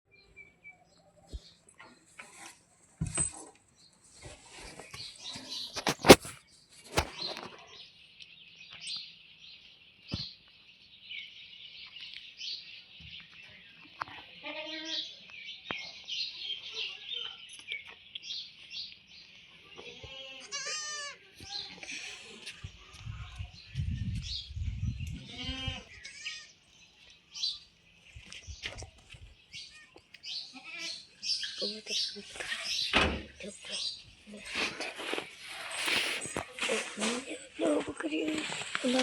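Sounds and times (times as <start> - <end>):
small birds chirping: 0.1 - 39.0.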